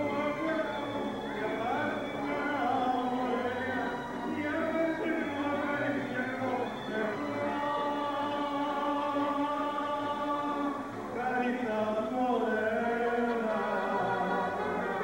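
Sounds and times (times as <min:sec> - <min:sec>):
man singing into a microphone: 0:00.0 - 0:15.0
mariachi band playing: 0:00.0 - 0:15.0.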